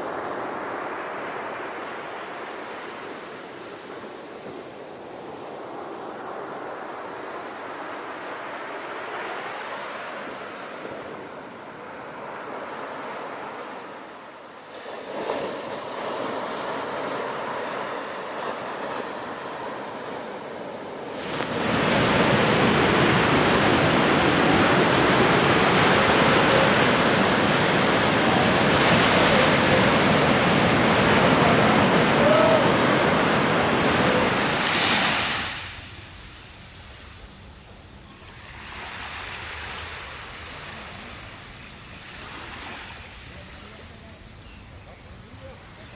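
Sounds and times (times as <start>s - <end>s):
sea waves washing in: 0.0s - 37.6s.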